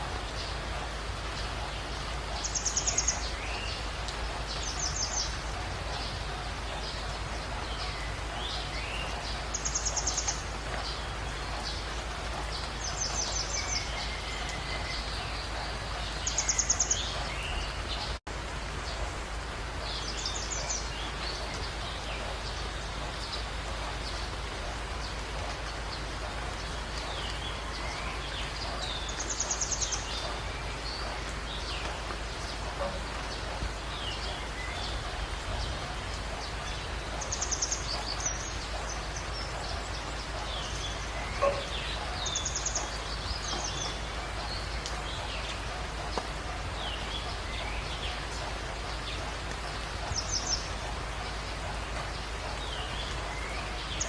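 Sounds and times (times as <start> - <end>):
background hiss: 0.0 - 54.0
birds chirping: 0.0 - 54.0.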